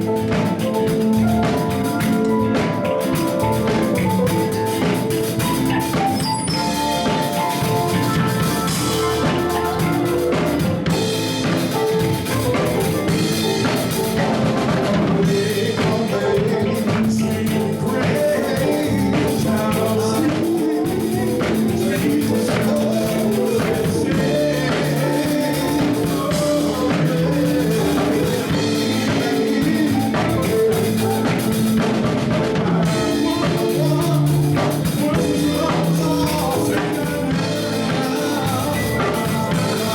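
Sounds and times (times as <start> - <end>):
band music: 0.0 - 39.9
drum kit beat: 0.0 - 39.9.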